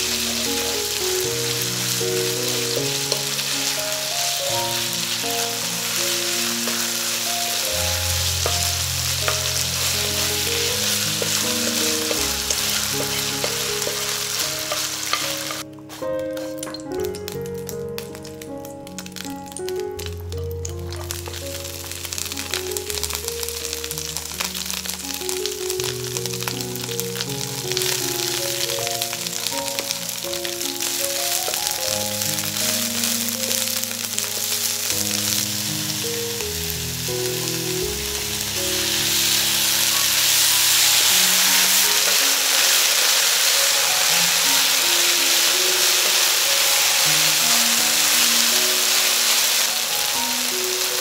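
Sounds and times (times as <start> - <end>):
herbs sizzling in hot oil: 0.0 - 51.0
soft background music: 0.0 - 51.0.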